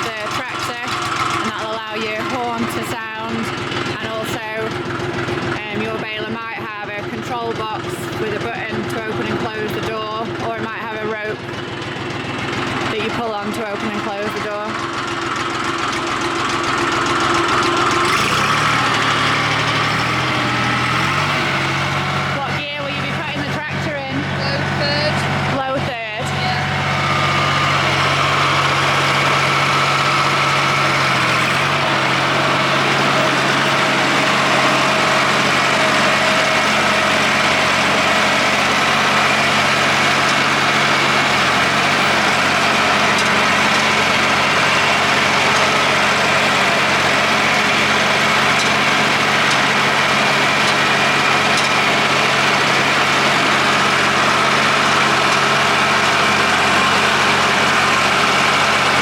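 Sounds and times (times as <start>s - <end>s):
baler mechanism noise: 0.0s - 59.0s
tractor engine running: 0.0s - 59.0s.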